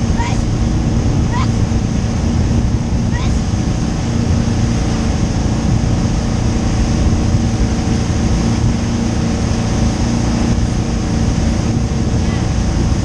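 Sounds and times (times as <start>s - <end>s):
boat engine running: 0.0s - 13.0s
water churning: 0.0s - 13.0s.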